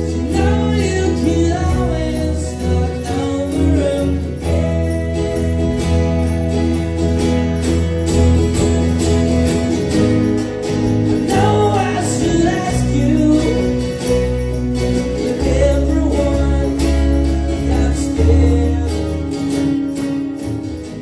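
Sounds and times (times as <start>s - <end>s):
bass: 0.0s - 21.0s
percussion: 0.0s - 21.0s
strummed acoustic guitar: 0.0s - 21.0s.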